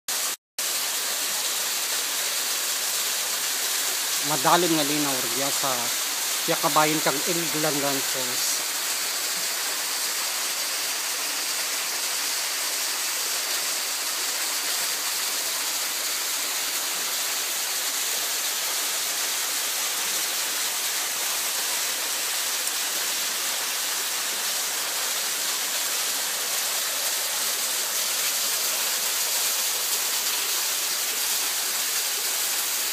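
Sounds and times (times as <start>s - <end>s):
waterfall splashing onto rocks: 0.1s - 32.9s.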